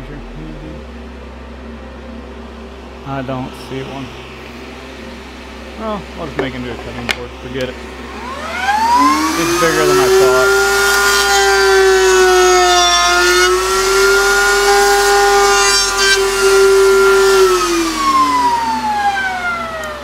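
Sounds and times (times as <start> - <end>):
router high whine: 0.0 - 20.0.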